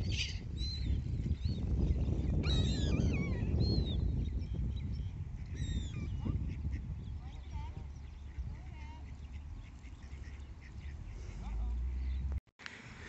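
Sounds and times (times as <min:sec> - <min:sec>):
waterbirds calling: 0:00.0 - 0:13.0.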